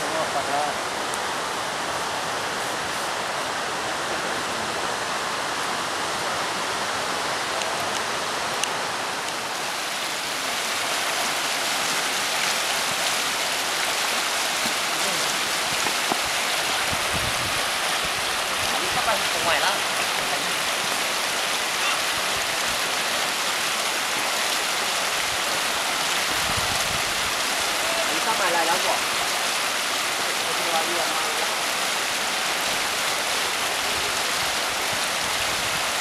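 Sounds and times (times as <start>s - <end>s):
river rushing over rocks: 0.0s - 36.0s.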